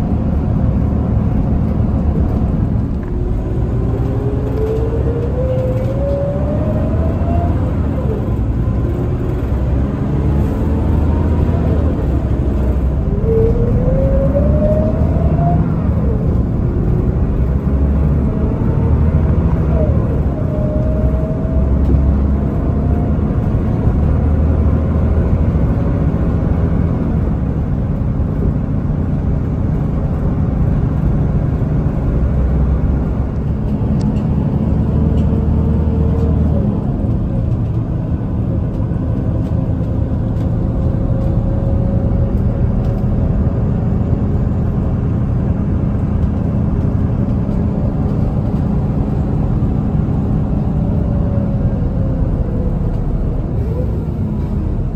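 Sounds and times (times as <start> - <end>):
bus engine running: 0.0 - 54.9
road and tyre noise: 0.0 - 54.9.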